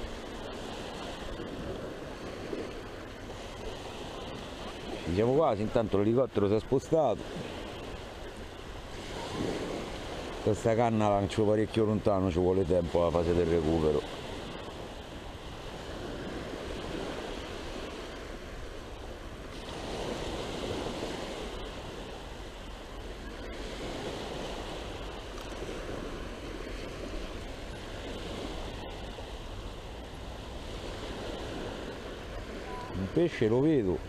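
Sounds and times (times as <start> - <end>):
small waves on sandy beach: 0.0 - 34.0.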